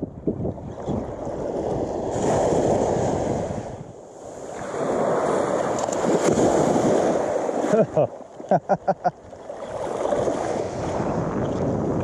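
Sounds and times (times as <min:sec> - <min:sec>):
small surf waves breaking: 0:00.4 - 0:12.0.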